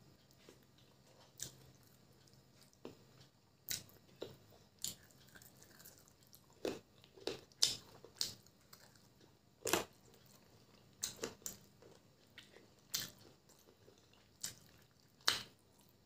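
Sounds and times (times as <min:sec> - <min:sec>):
chewing: 0:00.2 - 0:16.0.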